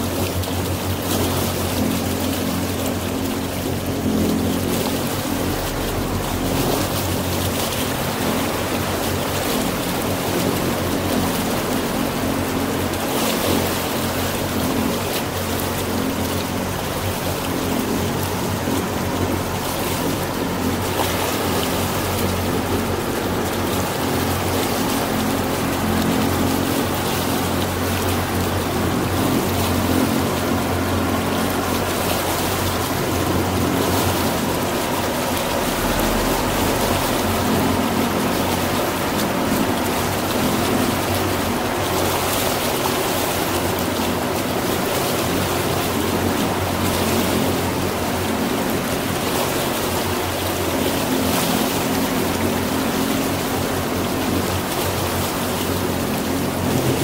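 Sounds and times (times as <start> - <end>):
motorboat engine droning: 0.0 - 57.0
water splashing along hull: 0.0 - 57.0.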